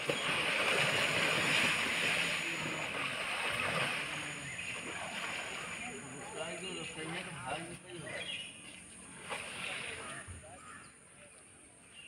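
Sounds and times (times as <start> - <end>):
water splashing and churning: 0.0 - 8.2, 9.0 - 10.7.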